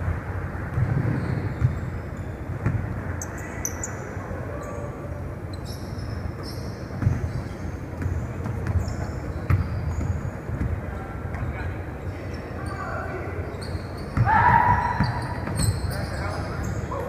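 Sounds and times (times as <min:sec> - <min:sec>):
sneakers squeaking: 0:00.7 - 0:17.0.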